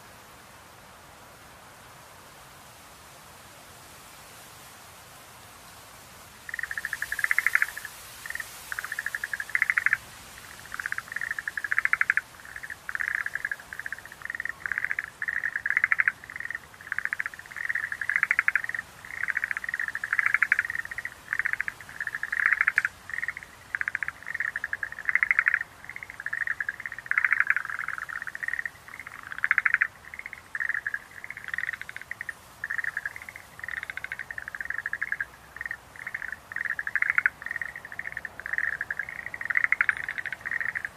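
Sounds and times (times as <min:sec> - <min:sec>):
tree frogs trilling: 0:06.4 - 0:40.9.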